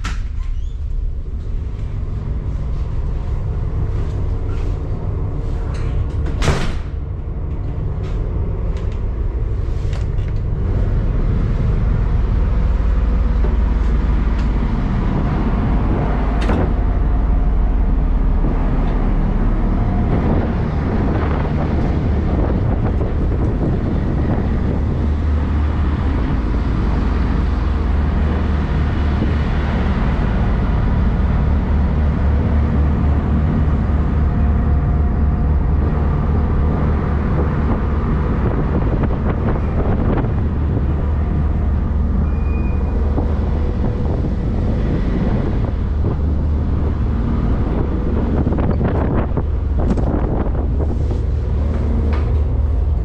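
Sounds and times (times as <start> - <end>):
ship engines rumbling: 0.0 - 53.0.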